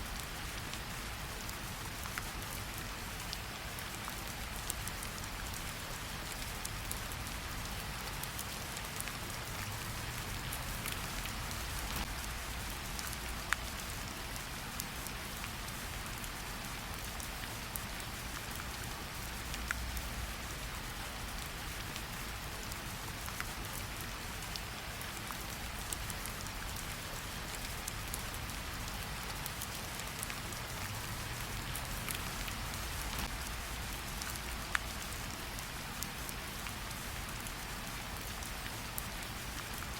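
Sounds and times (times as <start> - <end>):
light rain pattering on leaves: 0.0 - 39.9.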